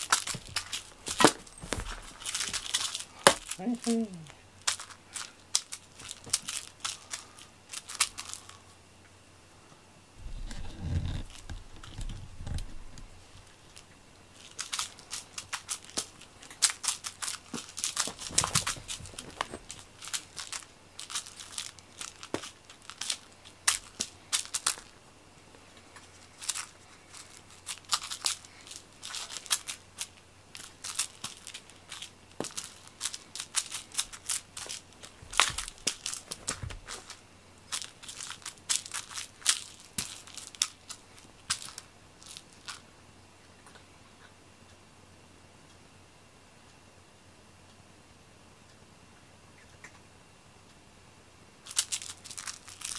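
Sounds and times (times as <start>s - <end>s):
toy mouse rustling on fleece mat: 0.0s - 8.8s, 10.2s - 42.9s, 51.6s - 52.9s.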